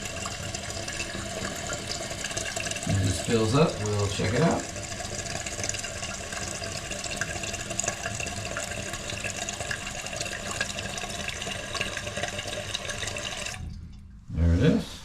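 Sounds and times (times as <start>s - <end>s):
toilet tank refilling: 0.0s - 14.7s.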